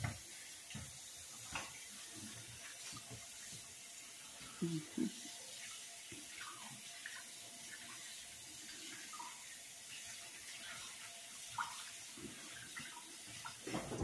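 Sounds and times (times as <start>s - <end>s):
faucet running into sink: 0.0s - 14.0s.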